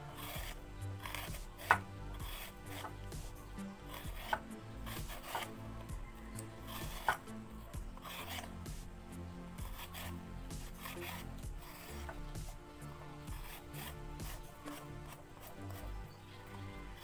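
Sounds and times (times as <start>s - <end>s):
gourd skin being scraped: 0.0s - 17.0s.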